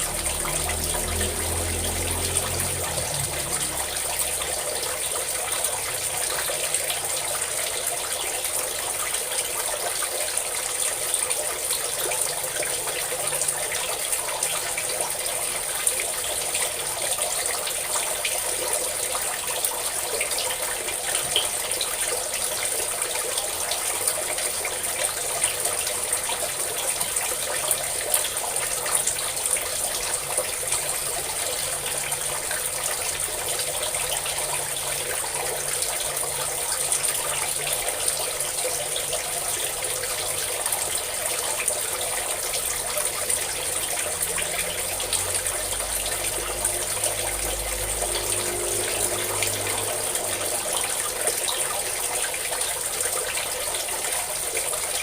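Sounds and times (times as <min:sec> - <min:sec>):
running water splashing: 0:00.0 - 0:55.0.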